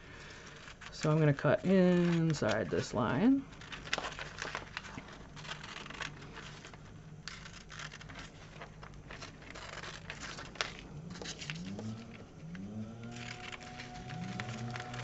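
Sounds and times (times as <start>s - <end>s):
paper crinkling: 0.0s - 15.0s
scissors snipping paper: 0.3s - 15.0s.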